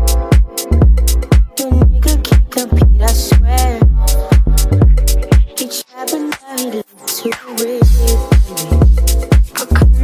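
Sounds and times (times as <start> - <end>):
rap music with deep bass beat: 0.0 - 10.0.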